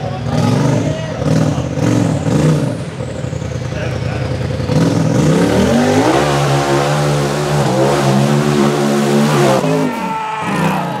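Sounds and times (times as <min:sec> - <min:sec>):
buggy engine revving hard: 0:00.0 - 0:11.0.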